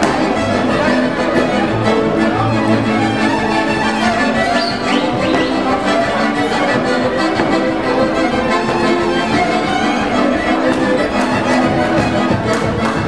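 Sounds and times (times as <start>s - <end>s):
double bass: 0.0s - 13.0s
fiddles bowing a melody: 0.0s - 13.0s.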